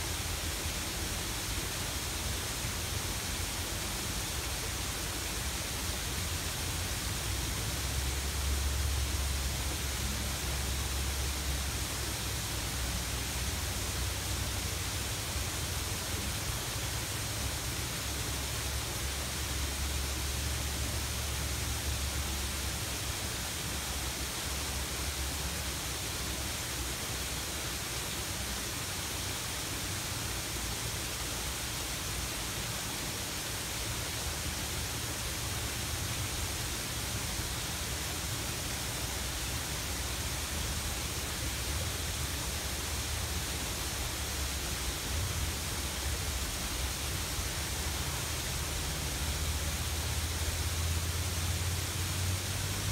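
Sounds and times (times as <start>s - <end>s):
waterfall pouring over rocks: 0.0s - 52.9s.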